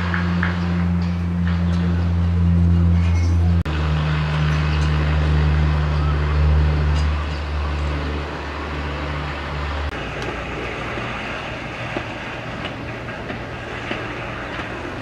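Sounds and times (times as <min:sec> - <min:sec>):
strong low hum: 0:00.0 - 0:13.0.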